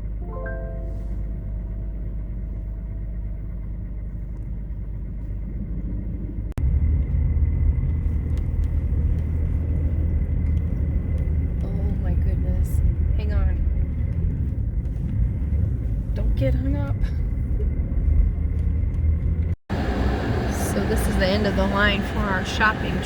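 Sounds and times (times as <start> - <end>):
truck rumbling on snowy road: 0.0 - 23.0.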